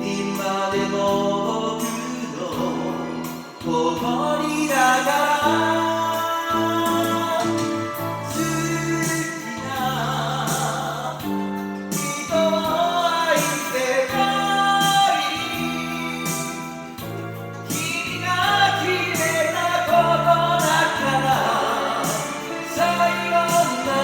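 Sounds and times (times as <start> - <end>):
karaoke backing track: 0.0 - 24.0
person singing: 0.0 - 24.0.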